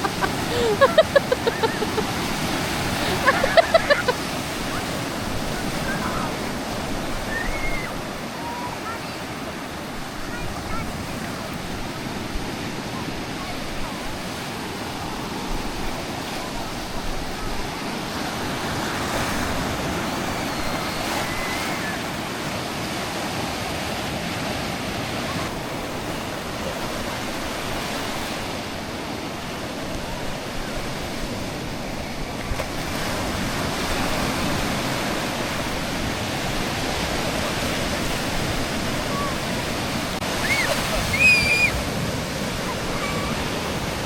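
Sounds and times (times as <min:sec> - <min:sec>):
sea waves washing in: 0:00.0 - 0:44.0.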